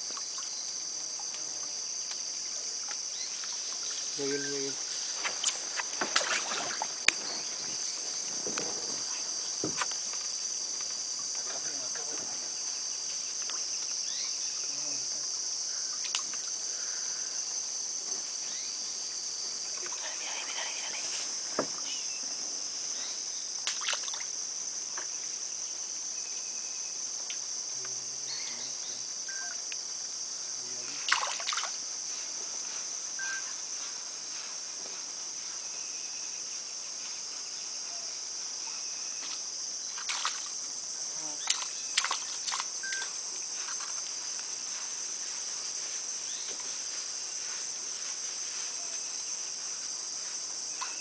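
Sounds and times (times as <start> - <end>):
insects buzzing: 0.0 - 51.0.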